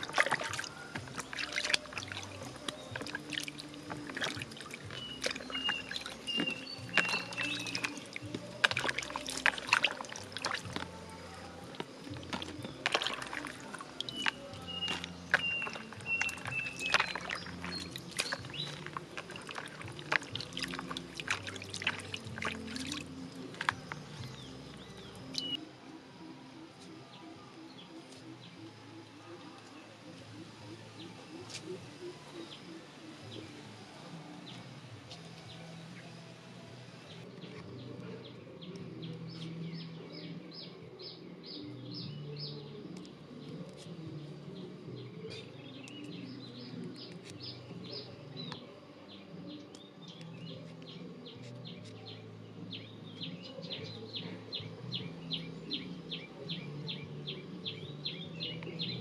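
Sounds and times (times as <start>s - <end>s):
bird chirping: 0.0s - 25.6s, 37.1s - 59.0s.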